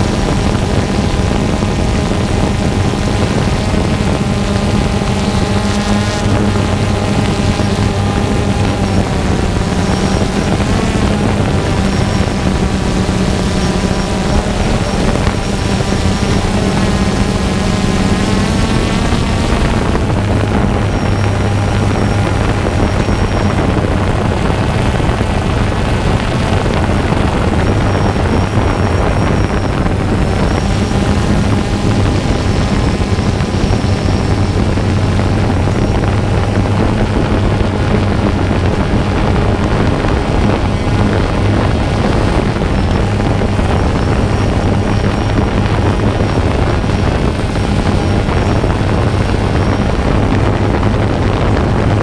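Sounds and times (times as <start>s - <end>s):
drone propellers and motors: 0.0s - 52.0s
high whine: 0.0s - 52.0s.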